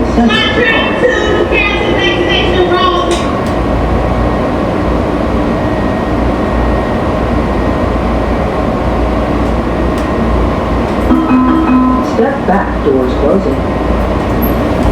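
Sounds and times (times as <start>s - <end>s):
train hum and rush: 0.0s - 14.9s.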